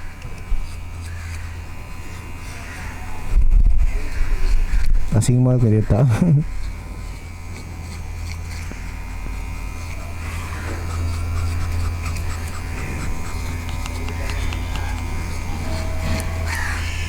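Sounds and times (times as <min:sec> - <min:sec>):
electric nail grinder running: 0:00.0 - 0:17.0.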